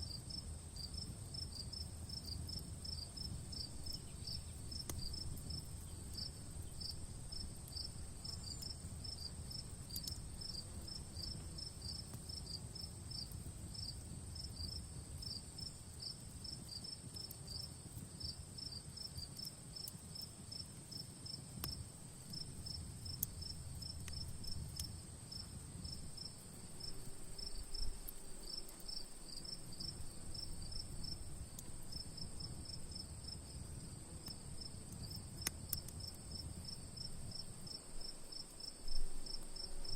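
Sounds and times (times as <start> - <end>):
campfire rumble and crackles: 0.0 - 39.9
insects chirping: 0.1 - 17.6, 18.2 - 39.9.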